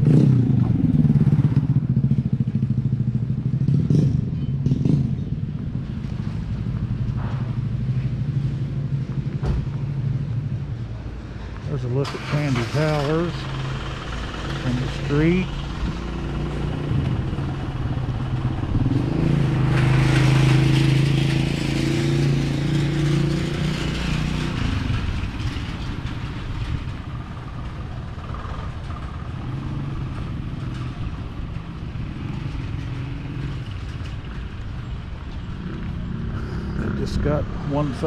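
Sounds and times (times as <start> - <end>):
low street background: 0.0 - 38.0
vehicle engine running: 0.0 - 38.0.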